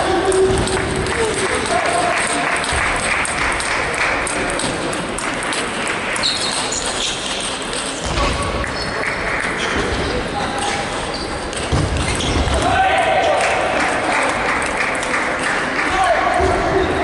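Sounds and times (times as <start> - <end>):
large hall background din: 0.0 - 17.0.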